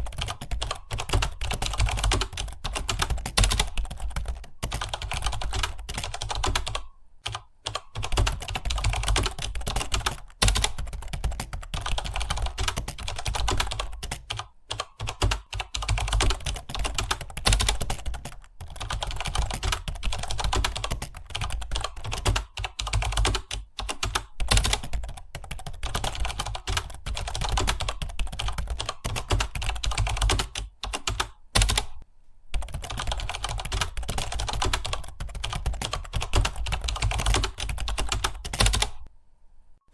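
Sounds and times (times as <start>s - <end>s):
fast typing on keyboard: 0.0s - 32.0s, 32.6s - 39.1s.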